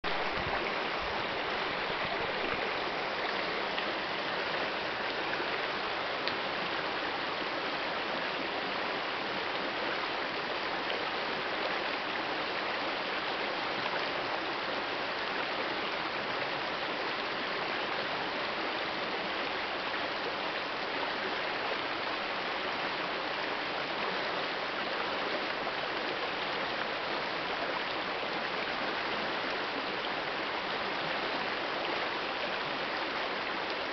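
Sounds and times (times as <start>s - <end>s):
river rushing over boulders: 0.0s - 33.9s.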